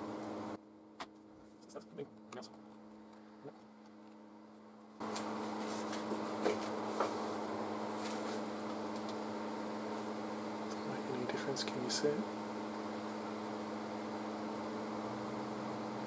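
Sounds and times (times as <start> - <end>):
steady hum and hiss: 0.0 - 16.0.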